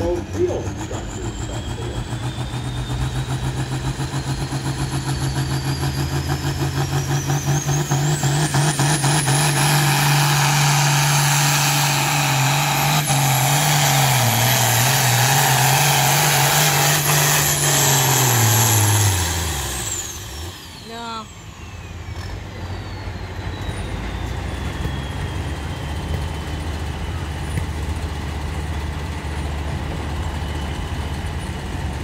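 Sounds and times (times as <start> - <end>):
turbocharger whistle: 0.0 - 27.6
tractor diesel engine at full throttle: 0.0 - 32.0.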